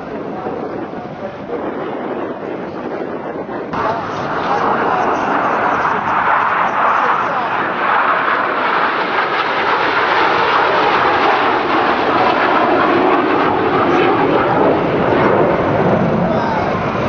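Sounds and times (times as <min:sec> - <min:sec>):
aircraft flying overhead: 0:00.0 - 0:17.0.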